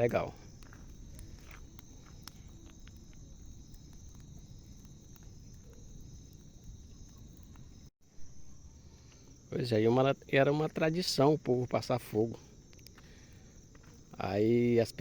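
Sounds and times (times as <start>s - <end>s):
faint crackles: 0.0s - 9.5s, 10.5s - 15.0s
crickets trilling: 0.0s - 15.0s.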